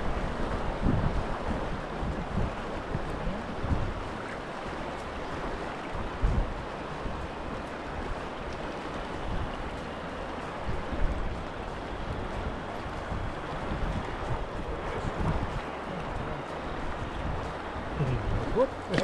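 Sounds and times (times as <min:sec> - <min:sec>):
fast-flowing river rushing: 0:00.0 - 0:19.0
wind buffeting microphone: 0:00.0 - 0:19.0.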